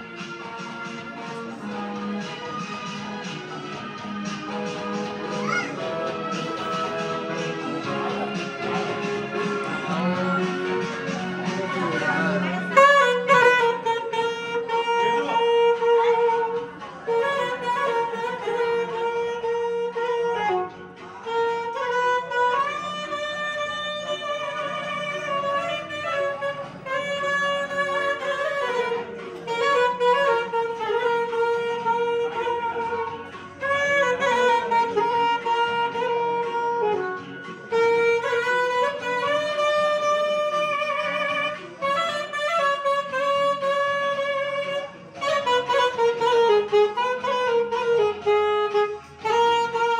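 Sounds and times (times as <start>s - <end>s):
saxophone playing slow melody: 0.0s - 49.9s.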